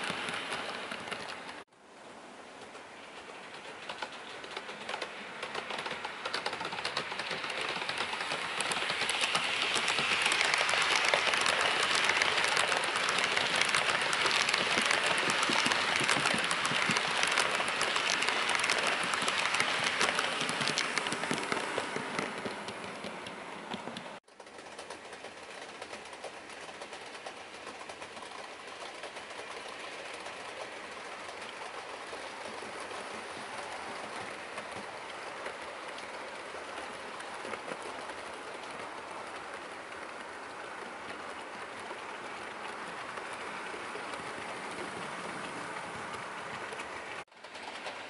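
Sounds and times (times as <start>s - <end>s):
model train wheels rattling: 0.0s - 1.7s, 2.6s - 48.0s.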